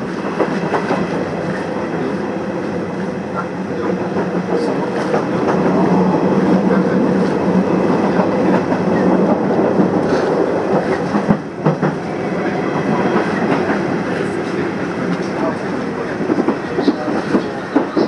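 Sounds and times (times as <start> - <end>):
train rumbling with low hum: 0.0 - 18.0.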